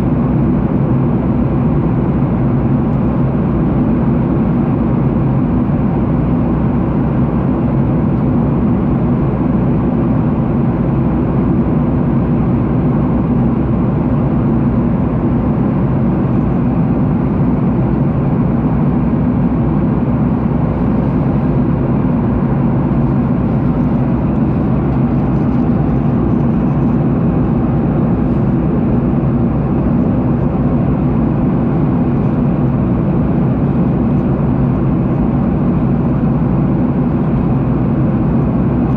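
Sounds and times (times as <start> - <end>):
jet engine cabin noise: 0.0 - 38.9.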